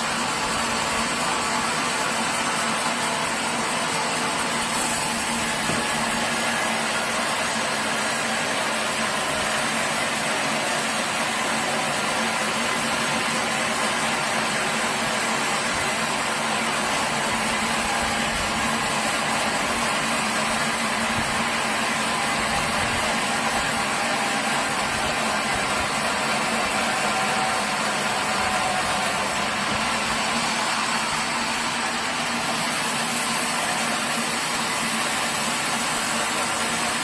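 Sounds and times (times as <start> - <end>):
sawmill machinery drone: 0.0 - 37.0.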